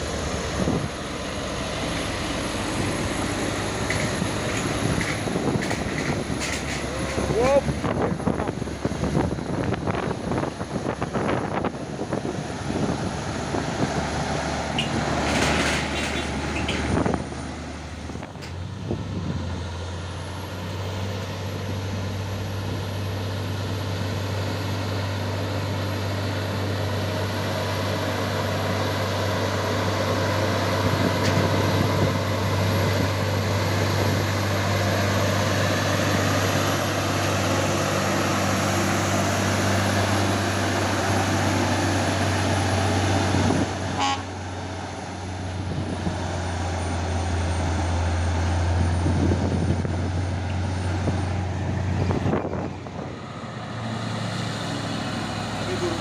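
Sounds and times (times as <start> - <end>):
truck diesel engine droning: 0.0 - 56.0.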